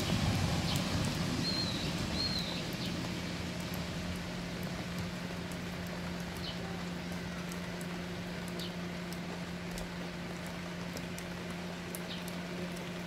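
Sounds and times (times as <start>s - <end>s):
constant low hum: 0.0s - 13.0s
drips pattering: 0.0s - 13.0s
steady rain: 0.0s - 13.0s.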